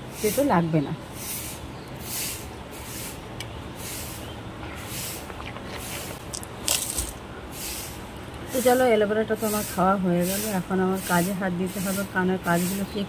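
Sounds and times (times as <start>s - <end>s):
background hiss: 0.0s - 13.0s
soft hissing puffs: 0.0s - 13.0s.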